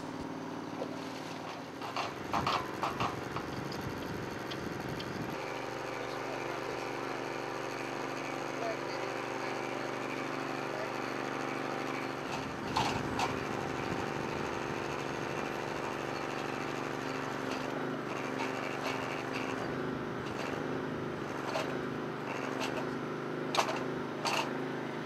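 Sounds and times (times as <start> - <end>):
hydraulic power unit humming: 0.0 - 25.0.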